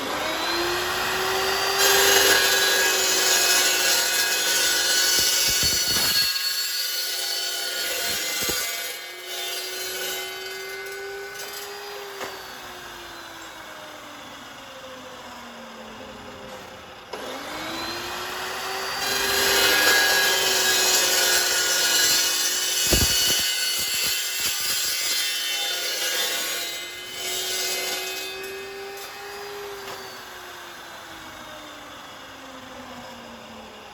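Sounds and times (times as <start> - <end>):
circular saw cutting steel: 0.0 - 33.9.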